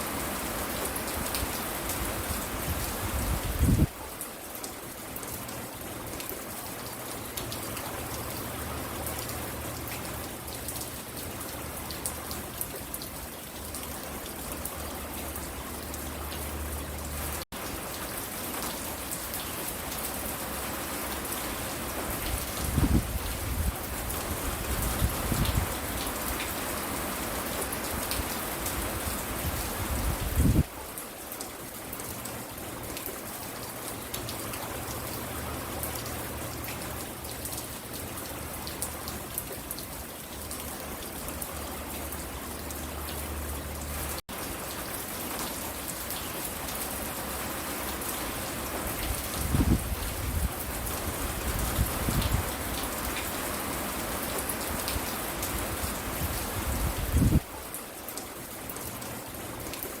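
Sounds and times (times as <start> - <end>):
rain pattering: 0.0 - 60.0.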